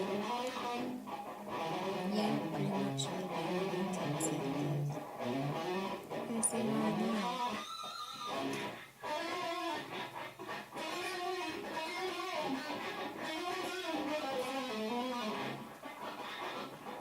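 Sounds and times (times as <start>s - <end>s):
electric guitar with bending notes: 0.0s - 17.0s.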